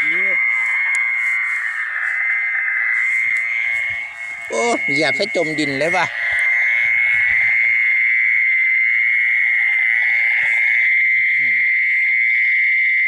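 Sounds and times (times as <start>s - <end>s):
frogs trilling: 0.0s - 13.0s.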